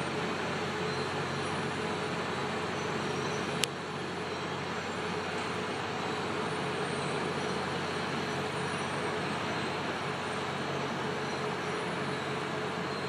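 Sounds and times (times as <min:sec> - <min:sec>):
construction machinery engines droning: 0:00.0 - 0:13.0.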